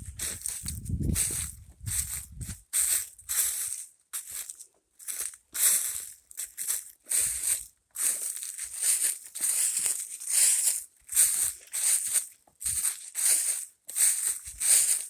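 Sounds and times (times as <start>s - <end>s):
footsteps crunching through dry leaves: 0.0s - 15.0s.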